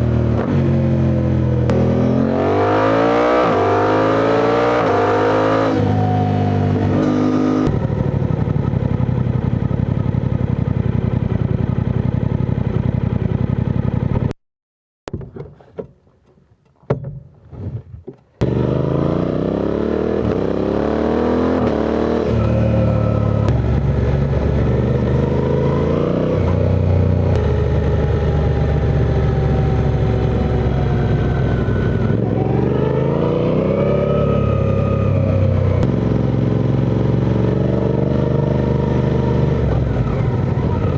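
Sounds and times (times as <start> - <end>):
motorcycle engine accelerating: 0.0 - 14.4, 17.1 - 40.9.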